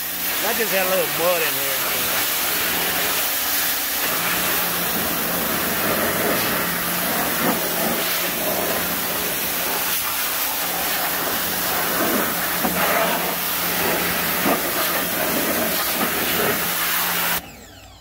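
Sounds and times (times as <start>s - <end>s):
pressure washer spray hissing: 0.0s - 17.4s.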